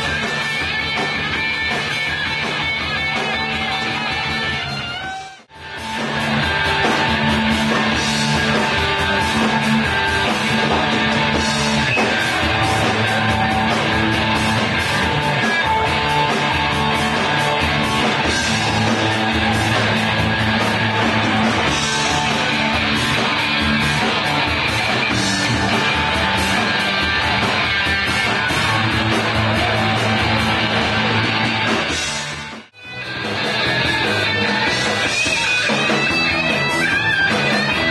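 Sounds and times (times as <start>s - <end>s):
live rock band playing: 0.0s - 37.9s.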